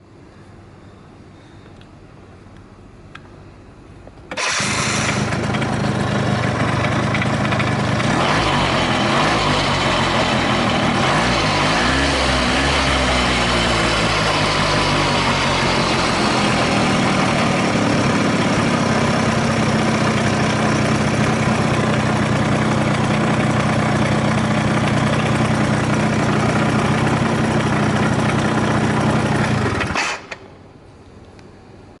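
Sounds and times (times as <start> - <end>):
scooter engine revving and idling: 4.4 - 30.3.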